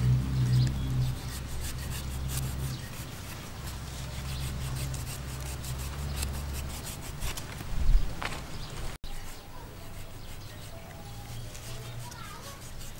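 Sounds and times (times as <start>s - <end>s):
knife scraping fruit flesh: 0.6s - 7.5s, 9.0s - 12.9s.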